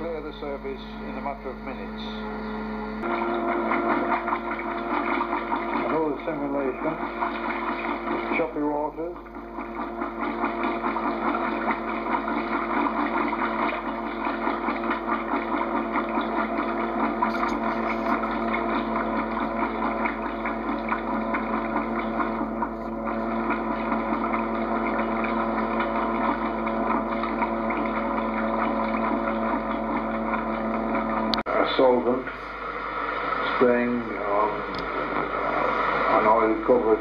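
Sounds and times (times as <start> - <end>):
small motor humming: 0.0 - 31.4.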